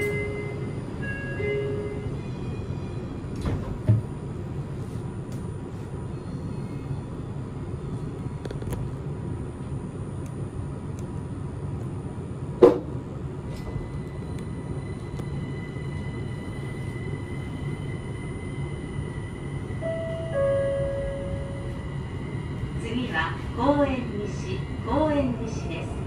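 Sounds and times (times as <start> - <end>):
maglev train running hum: 0.0 - 26.0.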